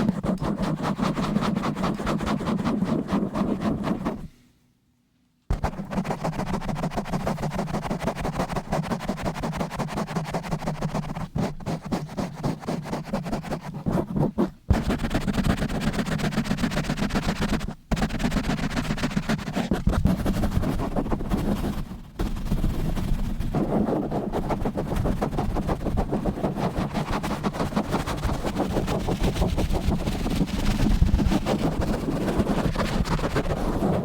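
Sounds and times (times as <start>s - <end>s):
scratching on microphone: 0.0s - 4.3s, 5.5s - 34.0s.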